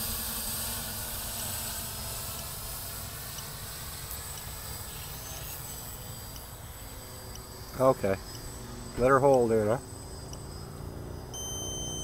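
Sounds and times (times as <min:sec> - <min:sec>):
faint high insect chirps: 0:00.6 - 0:12.0.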